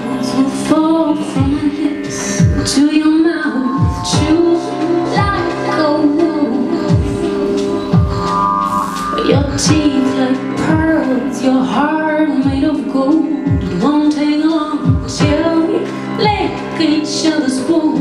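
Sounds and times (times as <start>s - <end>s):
woman singing into a microphone: 0.0s - 8.5s, 9.1s - 18.0s
sustained backing music: 0.0s - 18.0s.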